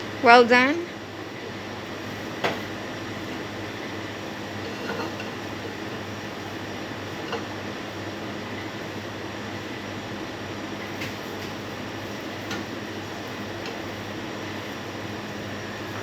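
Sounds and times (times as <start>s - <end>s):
kitchen hum and hiss: 0.0s - 16.0s.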